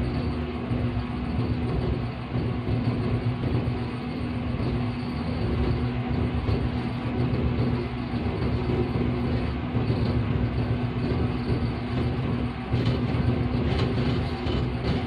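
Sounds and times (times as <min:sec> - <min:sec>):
train rumbling on track: 0:00.7 - 0:15.0.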